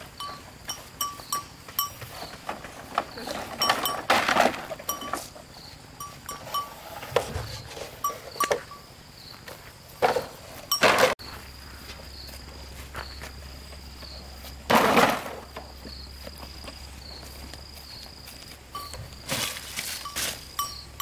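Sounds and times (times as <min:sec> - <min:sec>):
insects chirping in a trill: 0:00.0 - 0:21.0.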